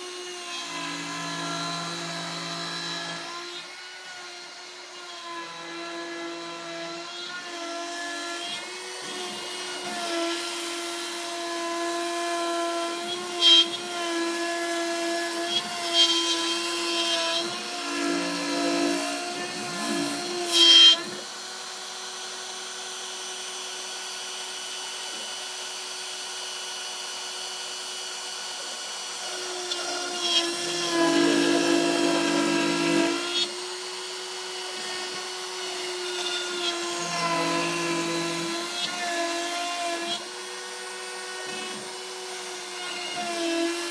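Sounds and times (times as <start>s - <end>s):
router spindle whining while cutting: 0.0s - 43.9s.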